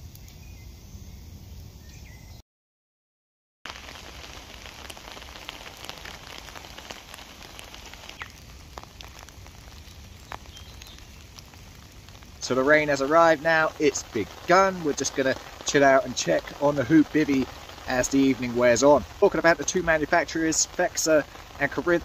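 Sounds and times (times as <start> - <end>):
rain on tarp: 3.6 - 22.0
faint outdoor ambience: 3.7 - 22.0.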